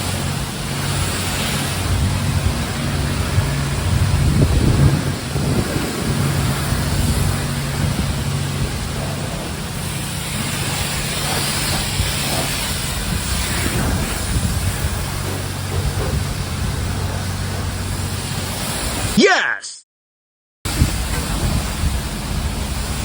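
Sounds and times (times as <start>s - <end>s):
pressure washer spray hiss: 0.0s - 4.7s, 5.3s - 16.9s, 20.7s - 23.0s.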